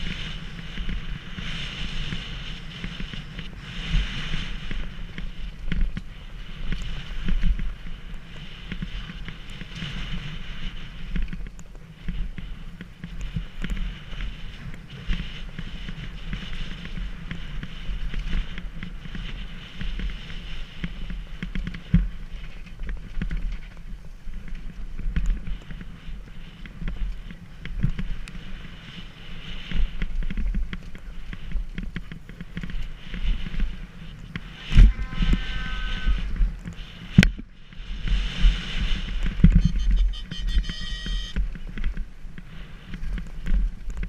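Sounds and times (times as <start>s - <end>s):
mountain bike over rough ground: 0.0s - 44.0s
wind rumbling on microphone: 0.0s - 44.0s.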